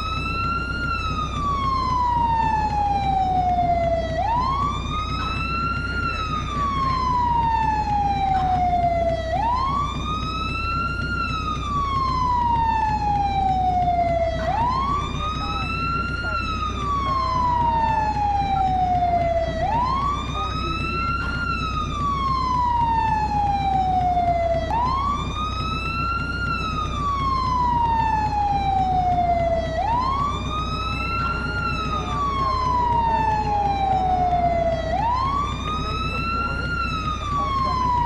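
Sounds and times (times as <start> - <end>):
fire truck siren wailing: 0.0 - 38.0.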